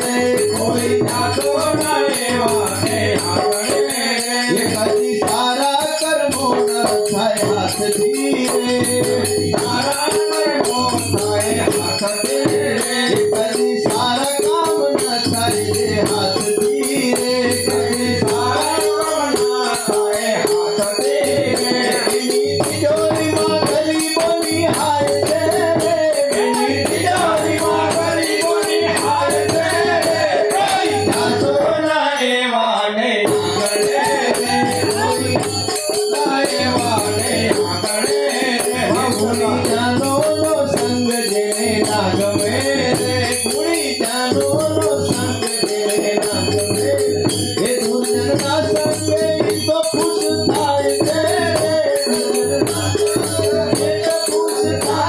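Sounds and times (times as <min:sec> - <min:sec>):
hand cymbals jingling: 0:00.0 - 0:31.6, 0:33.3 - 0:55.0
tabla beat: 0:00.0 - 0:32.0, 0:33.2 - 0:55.0
man singing devotional song: 0:00.0 - 0:55.0.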